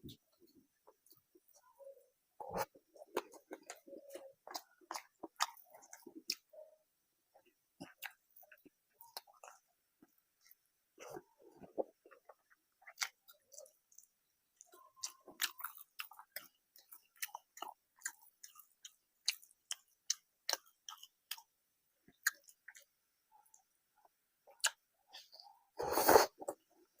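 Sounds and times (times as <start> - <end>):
person chewing food: 0.1 - 6.7, 7.3 - 27.0.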